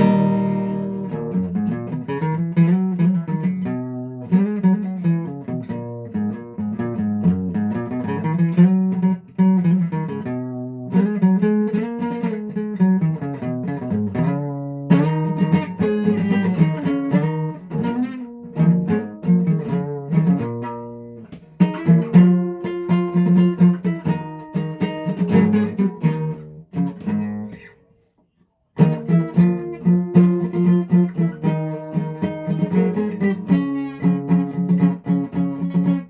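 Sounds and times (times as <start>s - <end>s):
solo guitar picking and strumming: 0.0s - 27.9s, 28.8s - 36.0s.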